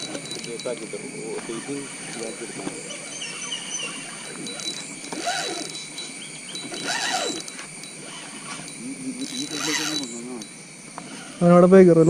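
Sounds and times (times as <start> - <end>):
fishing reel whirring and clicking: 0.0 - 11.6.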